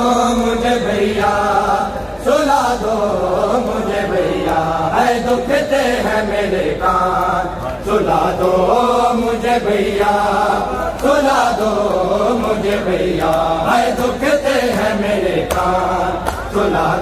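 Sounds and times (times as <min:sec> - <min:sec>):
men chanting a slow lament: 0:00.0 - 0:17.0.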